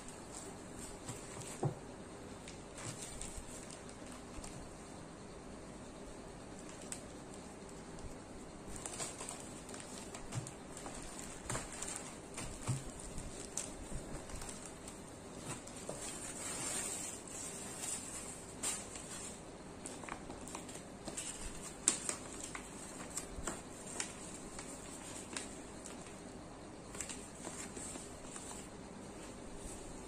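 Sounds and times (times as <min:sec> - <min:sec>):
plastic packaging rustling: 0:02.4 - 0:04.8, 0:06.5 - 0:26.2, 0:26.9 - 0:30.0.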